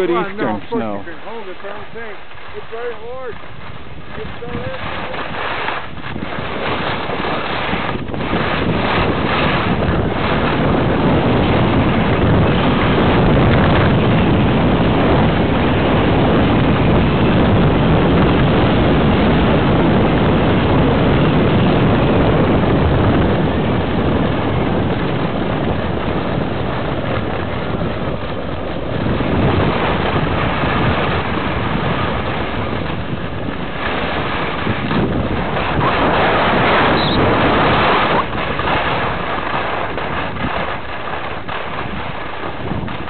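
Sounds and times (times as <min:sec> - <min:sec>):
skis scraping over snow: 0:00.0 - 0:43.0
wind rushing over microphone: 0:00.0 - 0:43.0.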